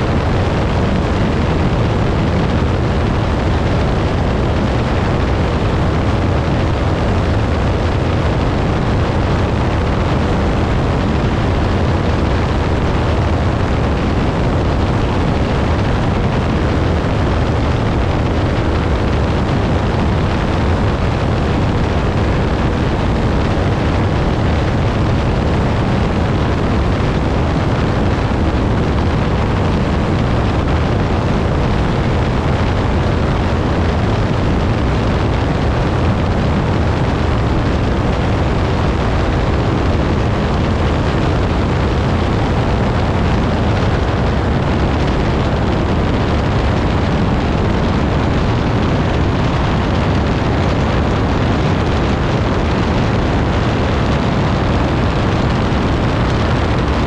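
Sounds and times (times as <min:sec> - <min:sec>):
wind noise: 0:00.0 - 0:57.0.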